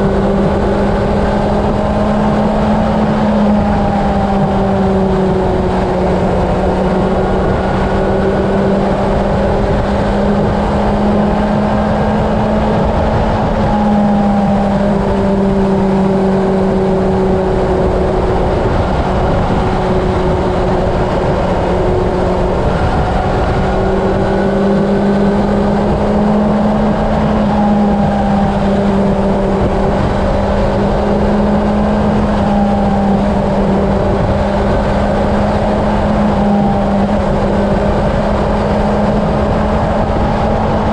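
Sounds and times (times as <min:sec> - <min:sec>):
heavy wind rush: 0:00.0 - 0:40.9
motorcycle engine cruising: 0:00.0 - 0:40.9.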